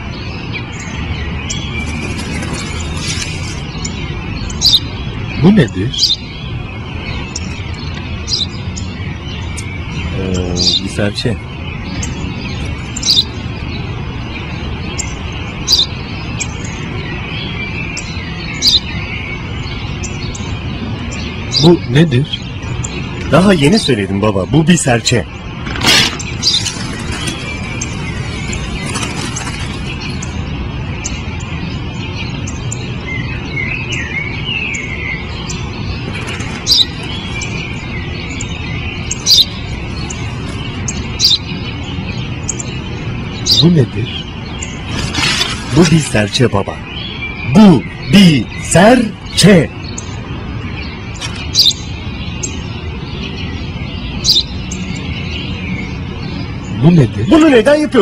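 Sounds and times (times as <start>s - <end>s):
sparrow chirping: 0.0s - 58.0s.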